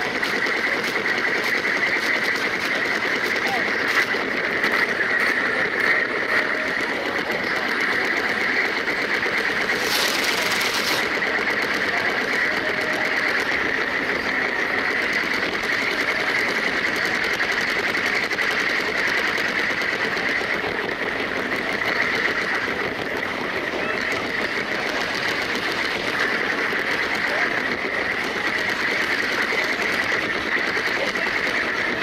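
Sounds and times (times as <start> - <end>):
toy train wheels clattering: 0.0 - 32.0.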